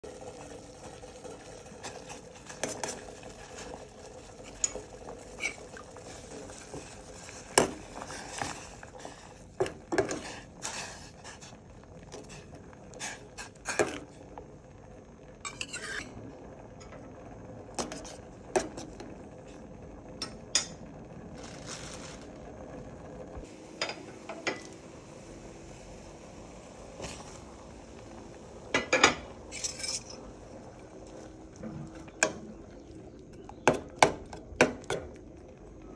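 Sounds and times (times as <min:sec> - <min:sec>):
water boiling: 0:00.0 - 0:35.9.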